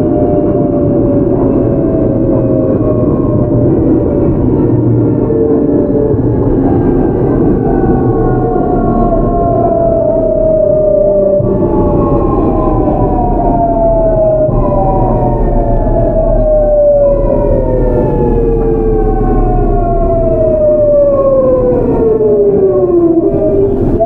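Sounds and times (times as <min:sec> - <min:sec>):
wheel and rail rumble: 0:00.0 - 0:24.0.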